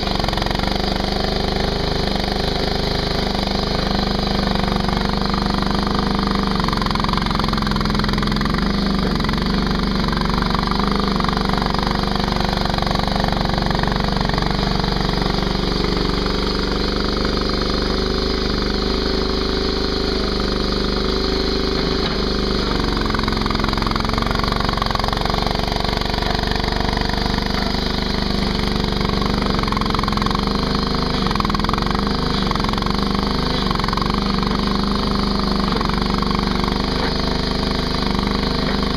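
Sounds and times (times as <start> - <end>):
skid steer engine running: 0.0 - 38.9.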